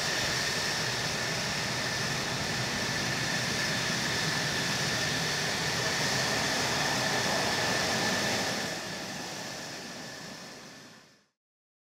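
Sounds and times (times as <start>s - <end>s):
jet engine idling with whine: 0.0s - 11.4s.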